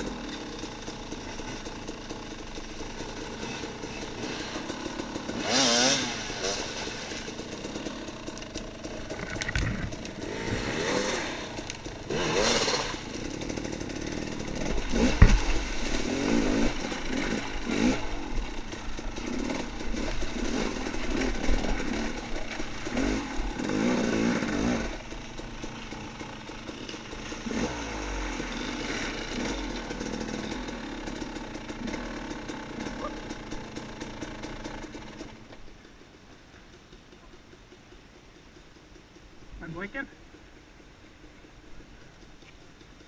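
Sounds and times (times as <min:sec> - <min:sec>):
dirt bike engine revving: 0:00.0 - 0:35.6.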